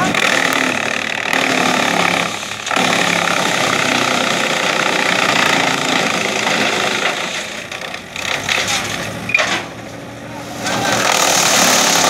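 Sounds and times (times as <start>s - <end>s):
tractor engine: 0.0s - 12.0s
wood chipper grinding branches: 0.0s - 12.0s.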